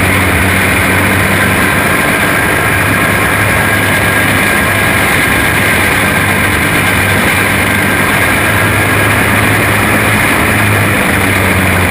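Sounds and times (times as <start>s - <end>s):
kart engine running: 0.0s - 11.9s
wind noise on microphone: 0.0s - 11.9s.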